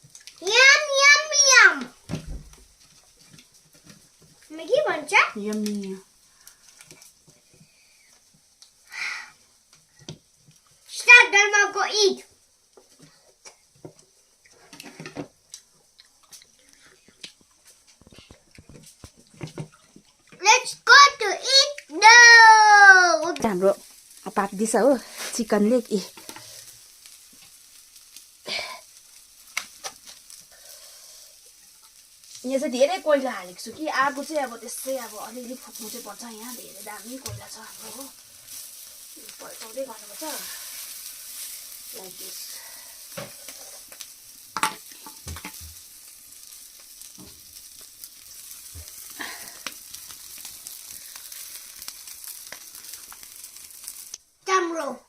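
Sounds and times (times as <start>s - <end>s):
chicken sizzling over charcoal: 0.0s - 55.0s
sharp crackles and pops: 0.0s - 55.0s.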